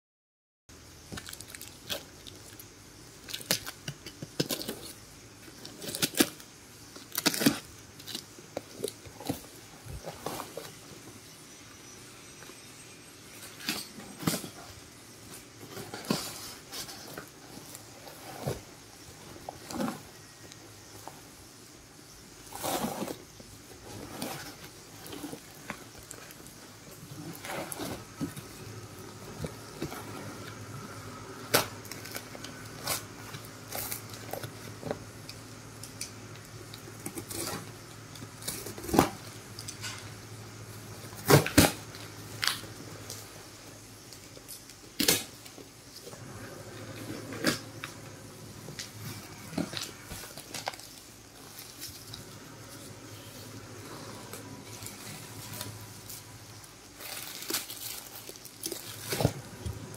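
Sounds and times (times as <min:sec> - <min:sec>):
low steady hum: 0:00.7 - 0:59.9.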